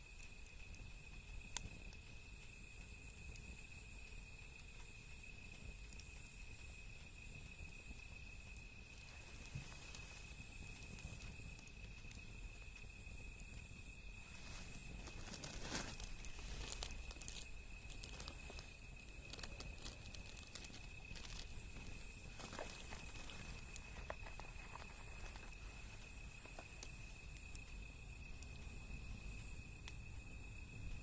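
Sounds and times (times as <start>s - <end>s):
high-pitched insect trill: 0.0s - 31.0s
wood fire crackling: 0.0s - 31.0s.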